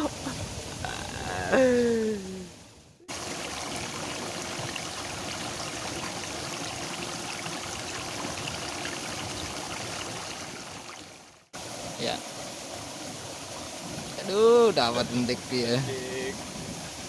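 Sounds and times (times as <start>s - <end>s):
water flowing in a ditch: 0.0s - 17.0s.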